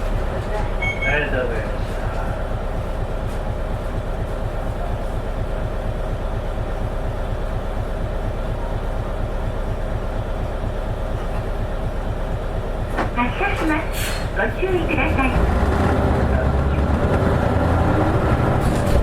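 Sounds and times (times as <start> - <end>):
bus engine drone: 0.0 - 19.0
steady whine: 0.0 - 19.0.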